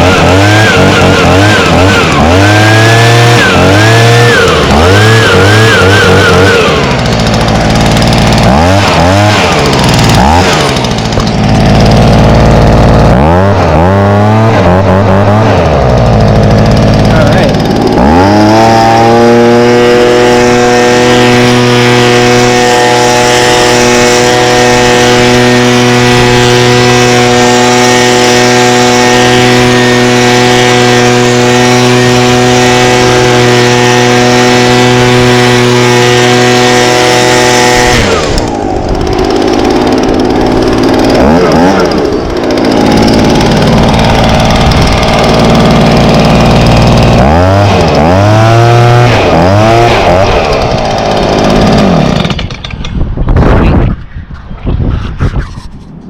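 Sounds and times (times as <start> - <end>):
leaf blower engine running: 0.0 - 53.8.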